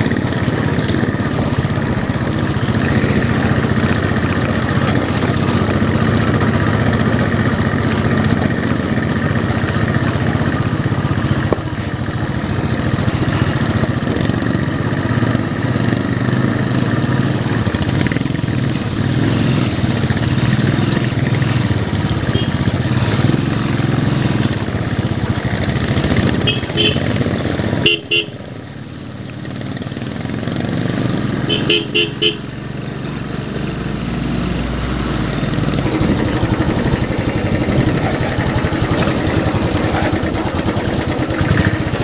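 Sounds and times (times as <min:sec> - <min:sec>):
motorcycle engine running: 0:00.0 - 0:42.0
other motorcycle engines nearby: 0:00.0 - 0:42.0.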